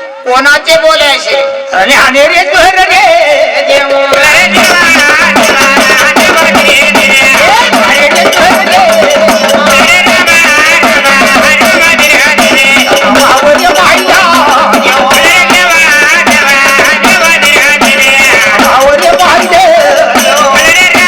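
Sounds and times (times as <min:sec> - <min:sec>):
person singing: 0:01.7 - 0:21.0
jingling hand percussion: 0:03.7 - 0:21.0.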